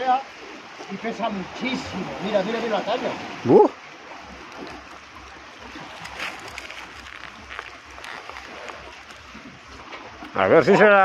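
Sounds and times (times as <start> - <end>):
sea water lapping at shoreline: 0.0 - 11.0.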